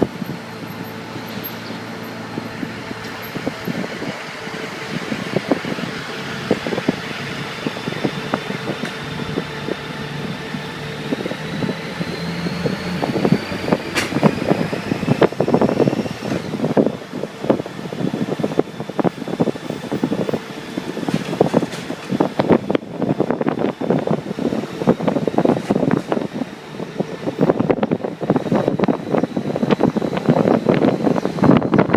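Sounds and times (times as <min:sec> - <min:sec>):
wind buffeting on microphone: 0:00.0 - 0:31.9.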